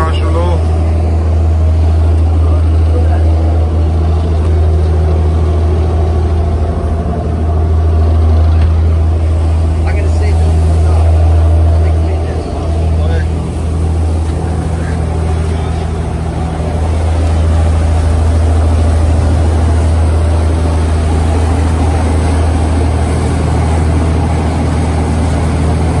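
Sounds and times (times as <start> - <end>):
boat engine droning: 0.0 - 26.0
churning wake water: 0.0 - 26.0.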